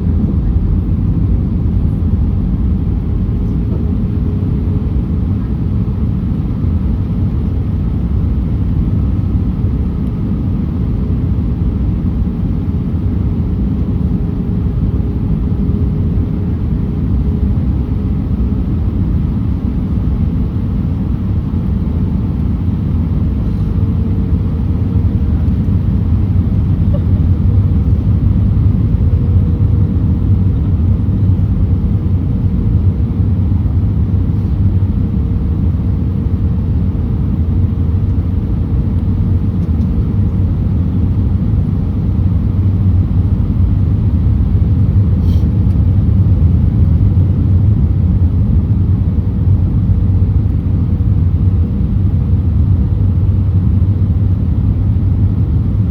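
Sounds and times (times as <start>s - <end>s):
airplane cabin rumble: 0.0s - 55.9s
faint steady hum: 0.0s - 55.9s.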